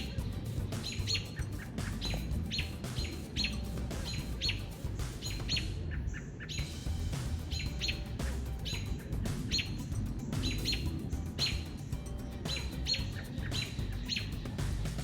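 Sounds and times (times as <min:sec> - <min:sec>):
small birds scolding calls: 0:00.0 - 0:15.0
steady low rumble: 0:00.0 - 0:15.0.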